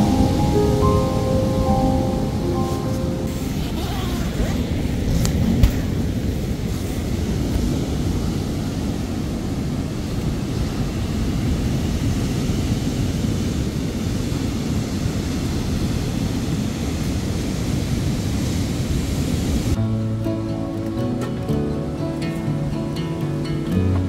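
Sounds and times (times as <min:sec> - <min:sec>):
wind rumbling on microphone: 0:00.0 - 0:19.8
heavy surf breaking: 0:00.0 - 0:24.0.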